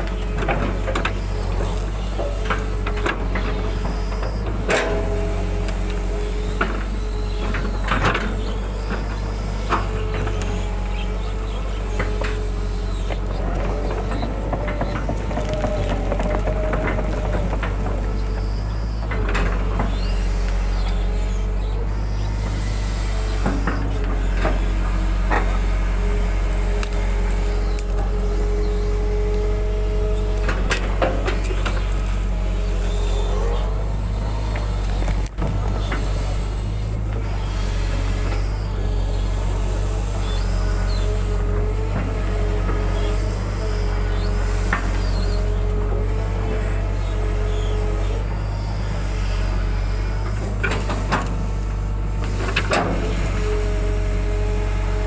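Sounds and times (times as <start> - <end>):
excavator diesel engine running: 0.0 - 55.0
hydraulic whine: 0.0 - 55.0.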